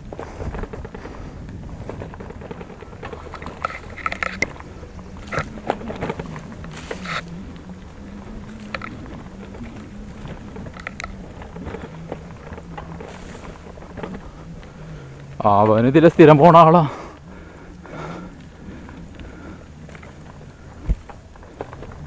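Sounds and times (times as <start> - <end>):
bicycle rattling and clicking: 0.0 - 22.0
steady low hum: 0.0 - 22.0.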